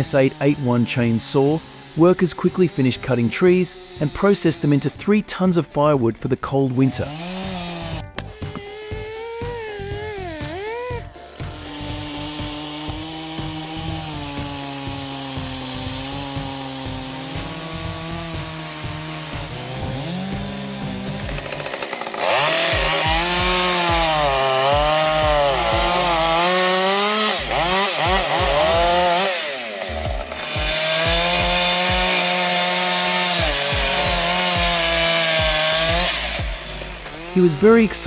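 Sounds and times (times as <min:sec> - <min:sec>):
chainsaws cutting logs: 0:00.0 - 0:38.0.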